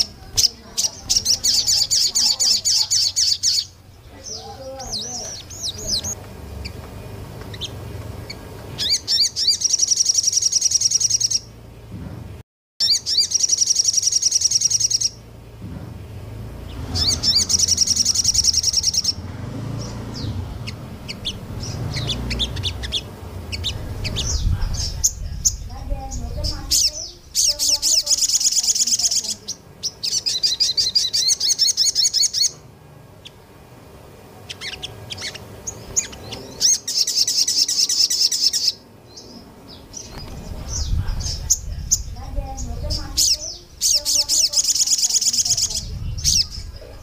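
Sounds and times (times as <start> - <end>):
songbirds singing: 0.0 - 12.0, 12.8 - 47.0.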